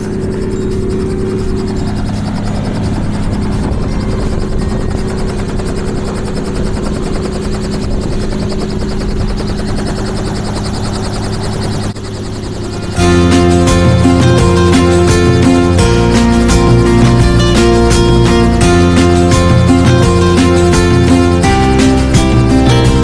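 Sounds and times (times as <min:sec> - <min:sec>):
helicopter rotor hum: 0:00.0 - 0:23.0.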